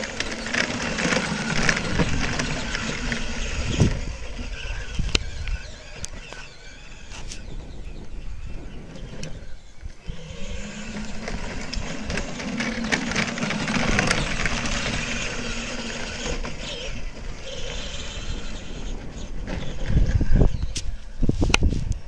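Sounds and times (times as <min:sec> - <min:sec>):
plastic wheels rolling over leaves: 0:00.0 - 0:20.6
toy electric motors humming: 0:00.0 - 0:20.7.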